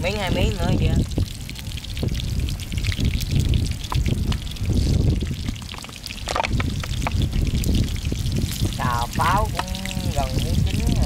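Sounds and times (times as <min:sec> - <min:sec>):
oil sizzling and popping: 0:00.0 - 0:11.0
wind buffeting microphone: 0:00.0 - 0:11.0.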